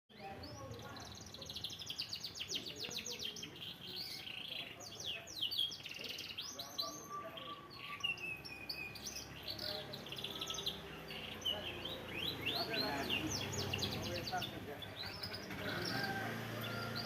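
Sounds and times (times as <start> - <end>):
canary singing: 0.1 - 17.0.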